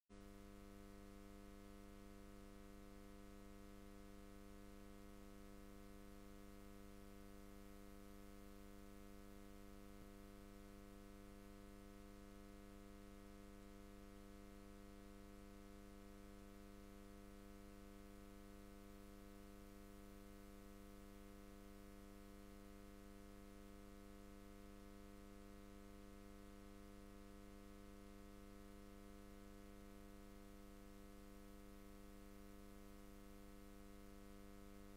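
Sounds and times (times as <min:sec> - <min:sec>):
faint electrical hum: 0:00.2 - 0:34.9.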